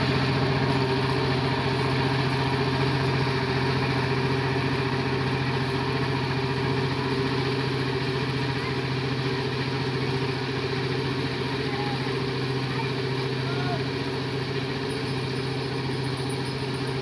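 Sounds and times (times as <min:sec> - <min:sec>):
tiller engine running: 0:00.0 - 0:17.0.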